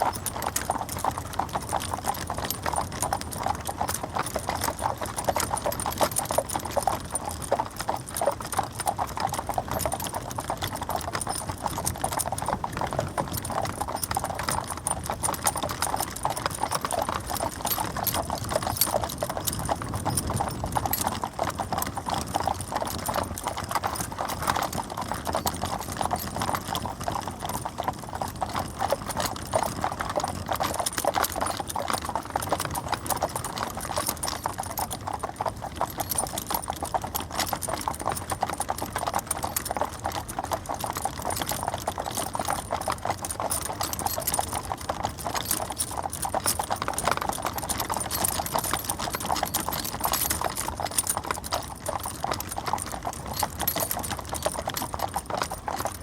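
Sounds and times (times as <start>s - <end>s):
horse hooves clip-clopping: 0.0s - 56.0s.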